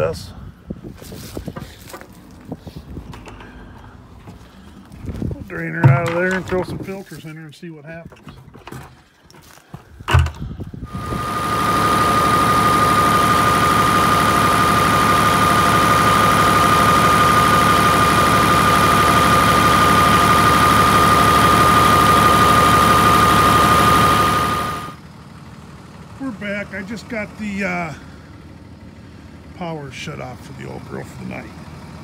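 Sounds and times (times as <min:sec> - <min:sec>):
wood chipper engine whining: 0:01.2 - 0:07.2, 0:08.8 - 0:32.0.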